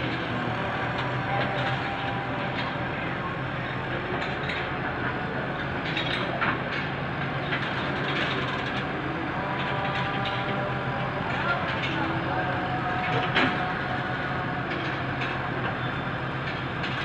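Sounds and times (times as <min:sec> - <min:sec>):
engine running: 0:00.0 - 0:17.0
outdoor noise: 0:00.0 - 0:17.0.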